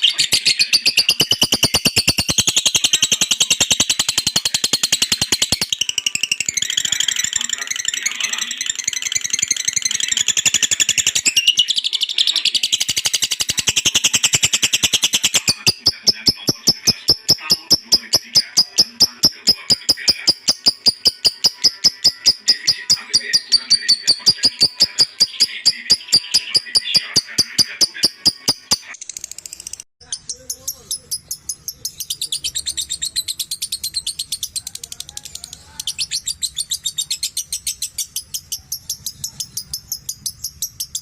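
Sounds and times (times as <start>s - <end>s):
lovebird chattering trill: 0.0s - 41.0s.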